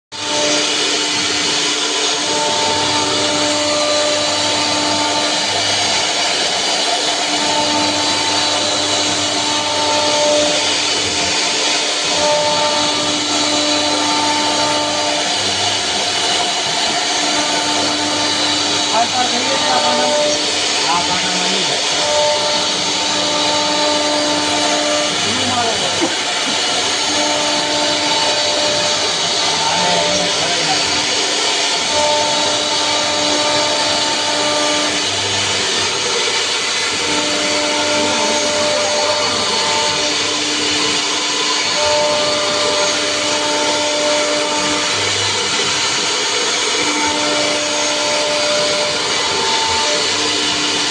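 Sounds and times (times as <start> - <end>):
router cutting wood: 0.1 - 50.9.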